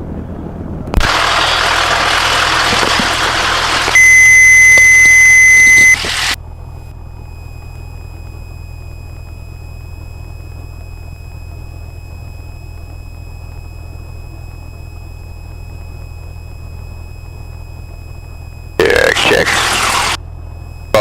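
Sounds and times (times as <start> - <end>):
aircraft engine idling: 0.1 - 21.0.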